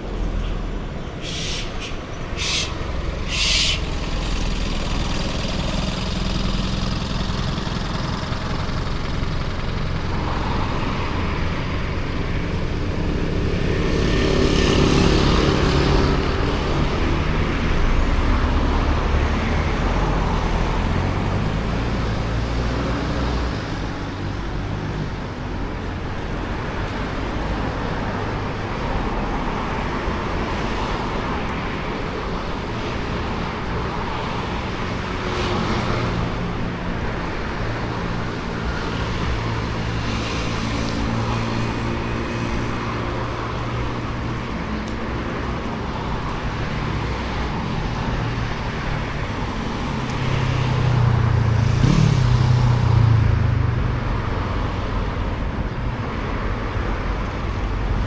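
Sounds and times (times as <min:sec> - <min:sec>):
vehicles passing close by: 0:00.0 - 0:58.0.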